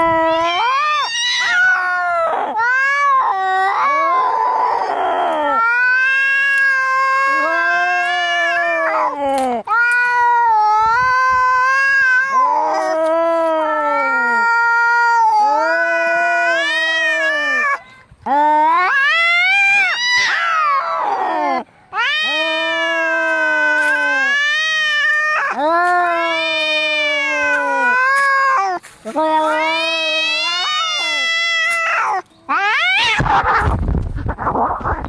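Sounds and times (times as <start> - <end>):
cats yowling in a fight: 0.0 - 33.8.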